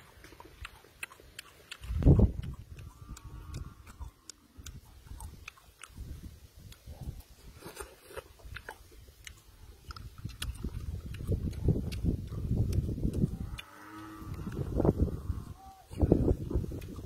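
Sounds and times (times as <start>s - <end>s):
wet chewing and mouth smacks: 0.0s - 17.0s.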